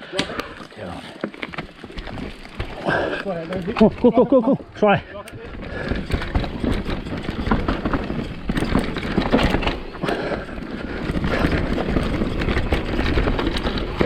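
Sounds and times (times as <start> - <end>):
bike tyres rolling over dirt: 0.1 - 14.0
chain and frame clattering: 0.4 - 14.0.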